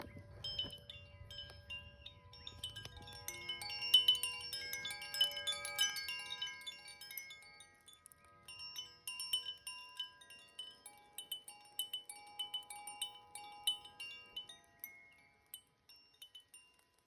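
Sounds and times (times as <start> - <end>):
chimes ringing: 0.0 - 17.0.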